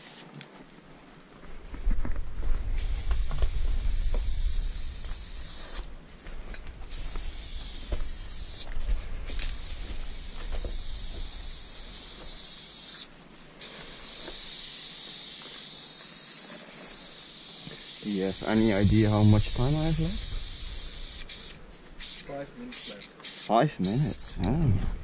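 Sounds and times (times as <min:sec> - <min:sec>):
spray paint can hissing: 0:00.0 - 0:00.3, 0:02.8 - 0:05.9, 0:06.9 - 0:08.7, 0:09.3 - 0:24.3.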